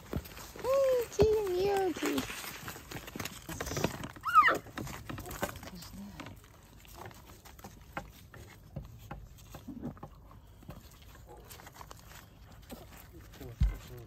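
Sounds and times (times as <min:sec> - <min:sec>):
rustling on plastic tarp: 0:00.0 - 0:09.9, 0:10.5 - 0:14.0.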